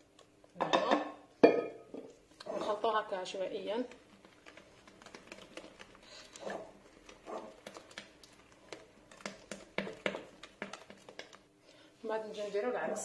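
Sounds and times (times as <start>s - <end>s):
soft mixing sounds: 0.0s - 13.0s.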